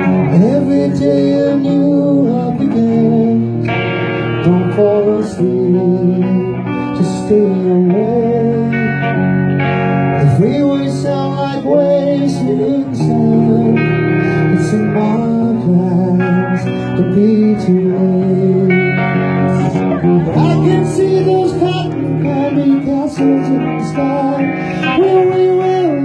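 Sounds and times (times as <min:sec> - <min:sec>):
person singing: 0:00.0 - 0:09.2, 0:10.2 - 0:26.0
electric guitar: 0:00.0 - 0:26.0.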